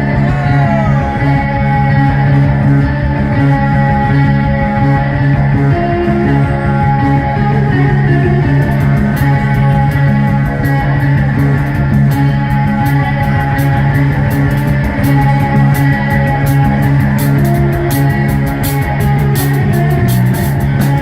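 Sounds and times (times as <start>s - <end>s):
drums with cymbal hits: 0.0s - 21.0s
guitars and bass riff: 0.0s - 21.0s.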